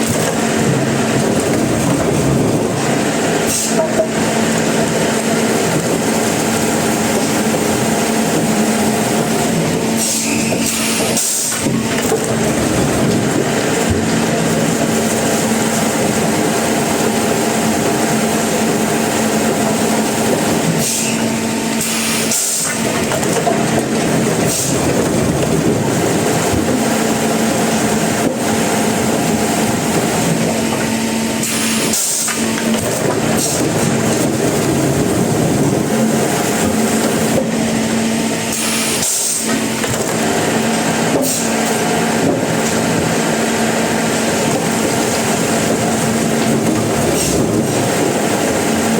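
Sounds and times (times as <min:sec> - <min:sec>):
sawmill machinery humming and grinding: 0:00.0 - 0:48.9.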